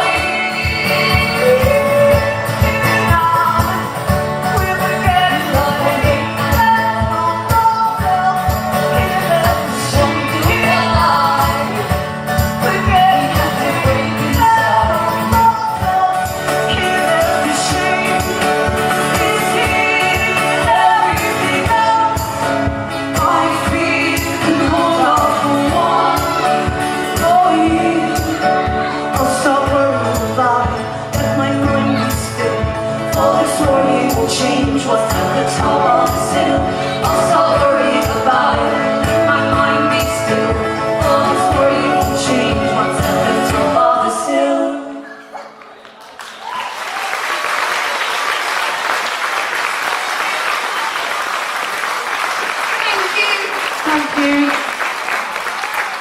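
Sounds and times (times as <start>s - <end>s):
live band playing: 0.0s - 44.9s
person singing: 0.0s - 45.3s.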